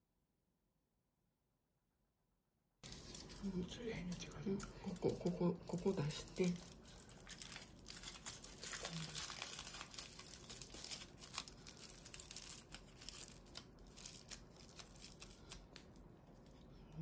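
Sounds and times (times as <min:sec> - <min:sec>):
aluminium foil crinkling: 0:02.8 - 0:16.8.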